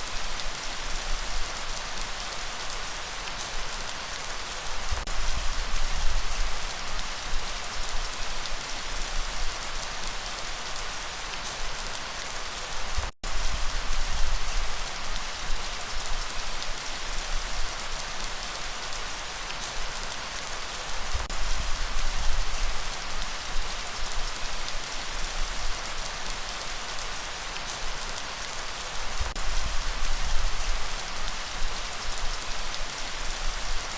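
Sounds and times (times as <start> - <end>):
rain pattering on surfaces: 0.0 - 33.9.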